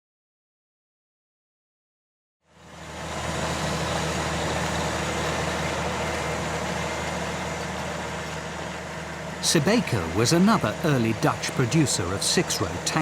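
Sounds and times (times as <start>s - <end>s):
diesel engine humming: 2.5s - 13.0s.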